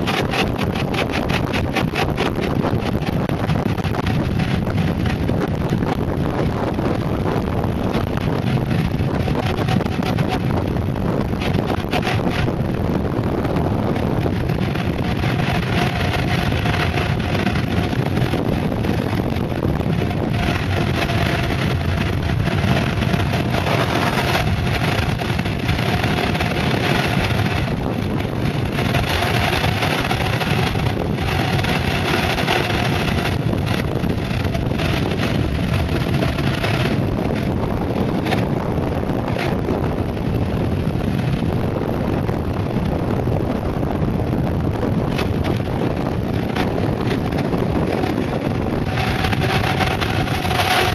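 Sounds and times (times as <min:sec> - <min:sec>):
tyres rolling on asphalt: 0:00.0 - 0:50.9
wind rush over microphone: 0:00.0 - 0:50.9.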